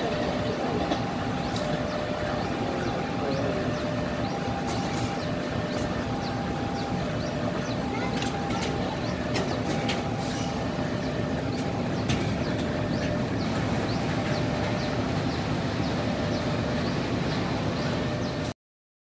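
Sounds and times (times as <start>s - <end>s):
diesel train engine rumbling: 0.0s - 18.5s.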